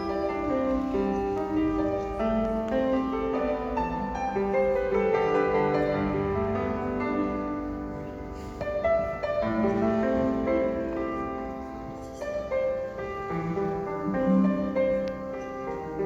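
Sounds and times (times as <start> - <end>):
piano instrumental music: 0.0 - 16.0.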